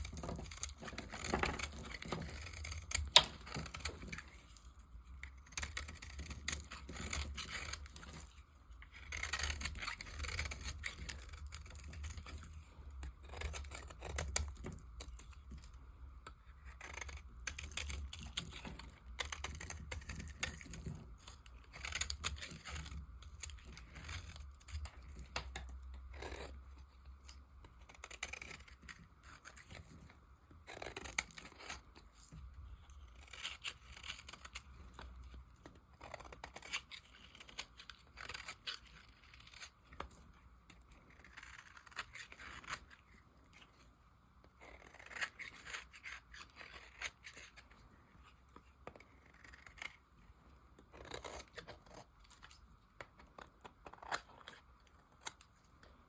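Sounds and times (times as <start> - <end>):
blade cutting dry soap: 0.0 - 43.8, 44.4 - 47.8.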